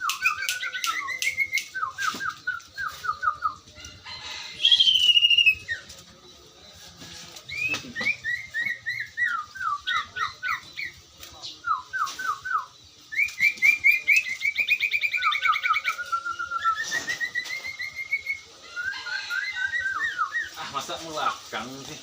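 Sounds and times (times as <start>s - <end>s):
songbird whistling and trilling: 0.0s - 6.0s, 7.5s - 21.0s.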